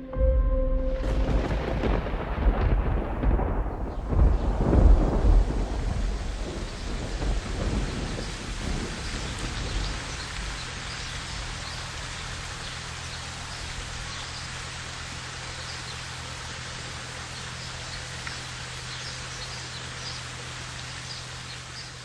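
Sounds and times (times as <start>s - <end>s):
thunder rumble: 0.2s - 20.8s
steady rain hiss: 1.0s - 22.0s.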